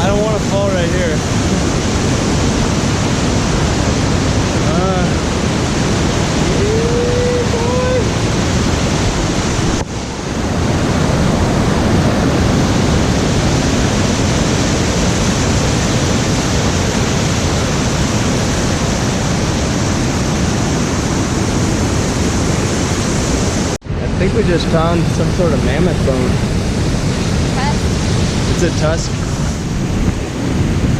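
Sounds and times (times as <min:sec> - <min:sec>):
creek water rushing: 0:00.0 - 0:30.9.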